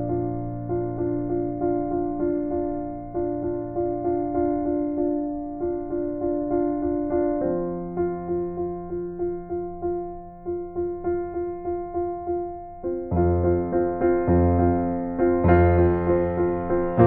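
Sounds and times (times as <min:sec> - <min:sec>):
gentle electric piano melody: 0:00.0 - 0:17.0.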